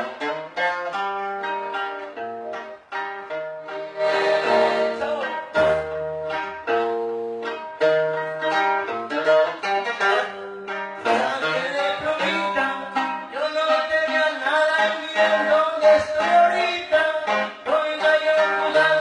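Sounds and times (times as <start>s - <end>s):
band with plucked strings: 0.0s - 19.0s.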